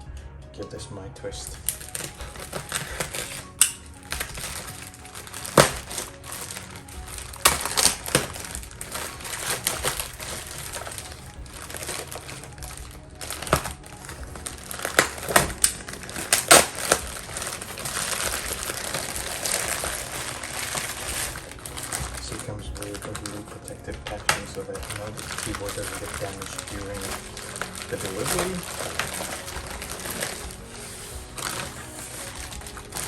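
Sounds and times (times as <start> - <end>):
crinkling plastic packaging: 1.4 - 33.0.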